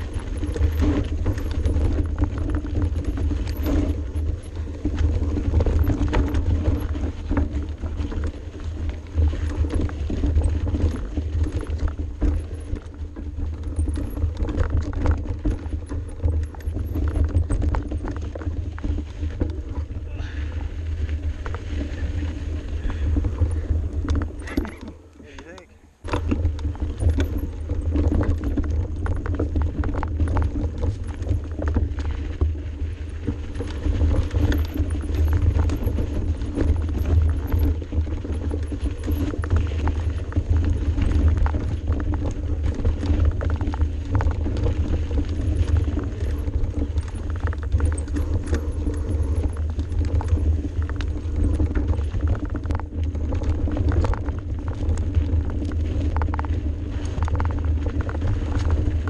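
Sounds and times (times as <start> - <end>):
bike rattling over rough ground: 0.0 - 59.0
wind rumble on microphone: 0.0 - 59.0.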